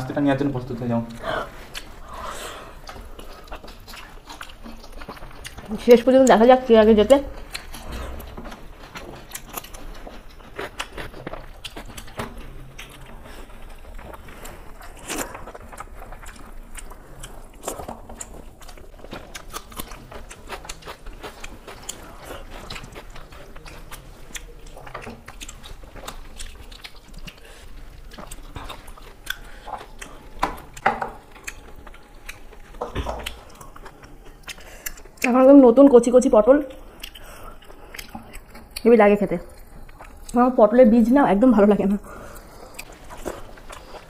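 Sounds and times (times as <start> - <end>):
chewing and mouth smacks: 0.7 - 2.0, 2.8 - 6.5, 7.2 - 35.4, 36.7 - 40.4, 42.1 - 44.0.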